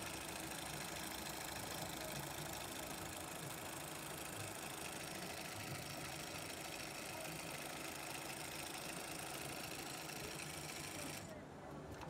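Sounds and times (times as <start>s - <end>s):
sewing machine running: 0.0s - 11.3s.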